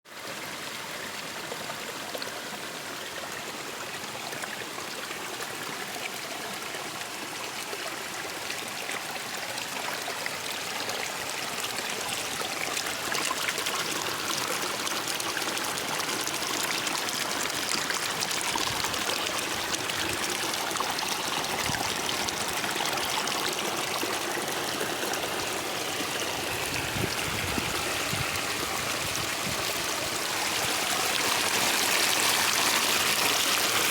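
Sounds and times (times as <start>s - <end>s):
stream water flowing: 0.1s - 33.9s.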